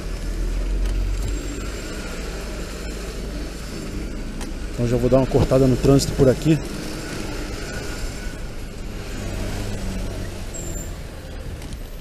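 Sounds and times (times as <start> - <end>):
car and truck engines humming: 0.0 - 12.0.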